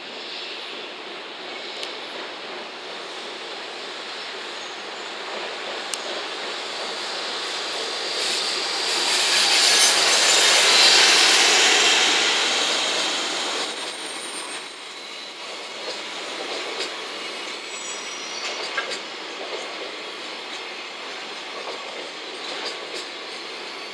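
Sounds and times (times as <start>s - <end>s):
electric locomotive passing: 0.0s - 23.9s.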